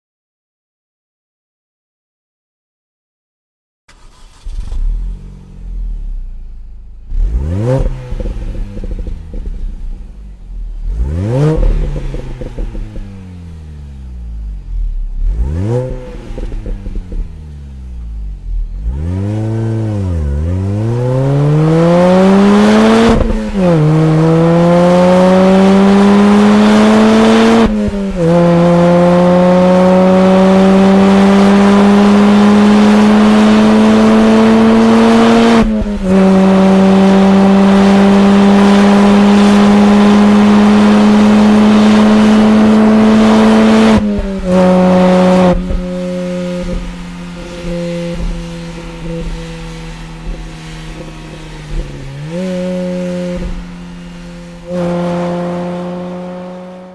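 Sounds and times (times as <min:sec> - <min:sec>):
car engine revving and accelerating: 0:03.9 - 0:56.9.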